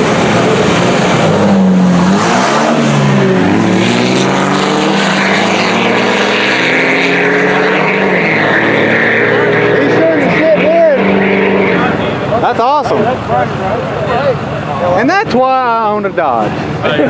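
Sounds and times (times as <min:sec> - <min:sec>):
diesel truck engines racing: 0:00.0 - 0:17.0.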